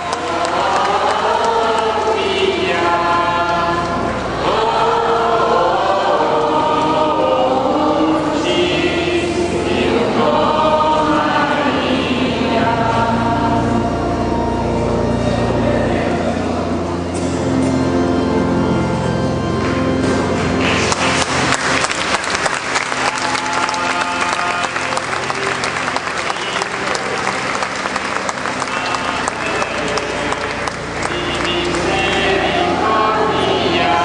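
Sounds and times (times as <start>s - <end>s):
choir singing a hymn: 0.0s - 34.0s.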